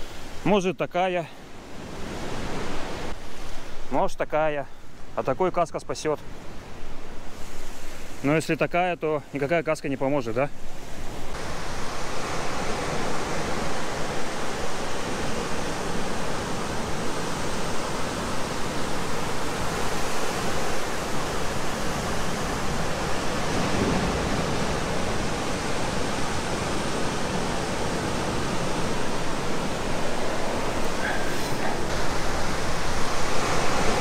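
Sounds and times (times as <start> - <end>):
heavy surf breaking against cliff: 0.0 - 34.0.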